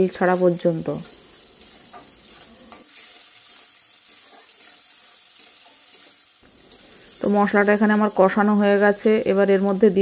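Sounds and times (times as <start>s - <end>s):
spatula scraping pan: 0.0s - 9.2s
paste sizzling in oil: 0.0s - 10.0s.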